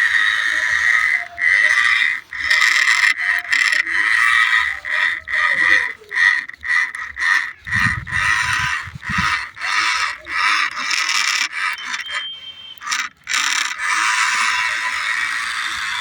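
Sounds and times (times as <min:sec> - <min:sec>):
wheels scraping over soil: 0:00.0 - 0:13.8
toy electric motor whirring: 0:00.0 - 0:16.0.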